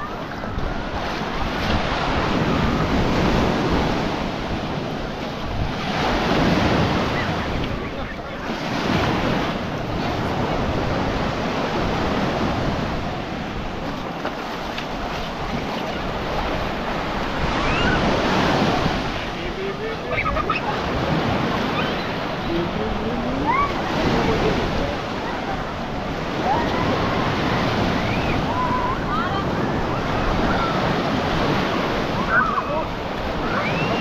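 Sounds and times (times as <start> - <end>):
surf washing onto sandy beach: 0.0 - 34.0
wind buffeting microphone: 0.0 - 34.0.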